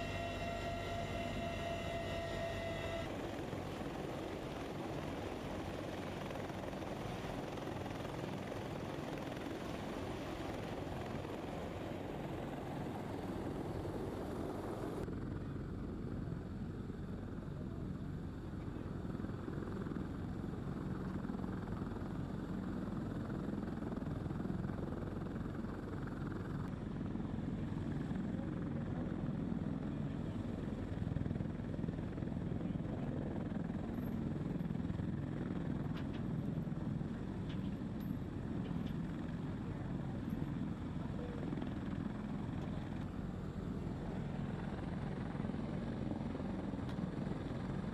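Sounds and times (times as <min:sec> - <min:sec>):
helicopter rotor and turbine roar: 0:00.0 - 0:47.9.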